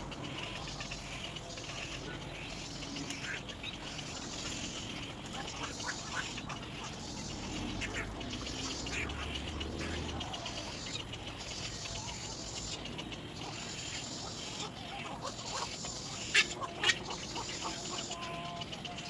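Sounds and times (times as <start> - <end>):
egret chick calling: 0.0 - 19.0.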